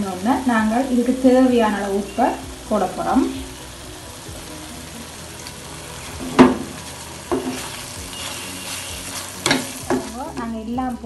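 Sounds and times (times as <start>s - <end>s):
food sizzling in a frying pan: 0.0s - 11.0s
spatula stirring in pan: 0.9s - 10.4s.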